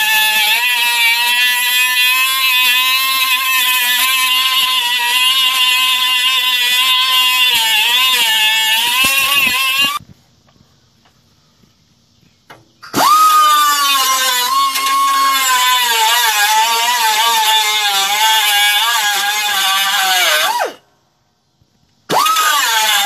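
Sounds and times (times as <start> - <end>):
cut-off tool whining and grinding steel: 0.0 - 10.0, 12.8 - 20.8, 22.1 - 23.0.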